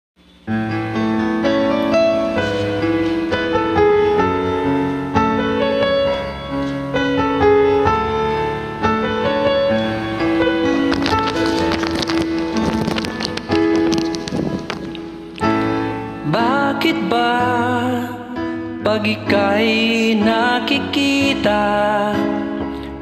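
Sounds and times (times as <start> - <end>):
slow piano chords on keyboard: 0.2 - 23.0.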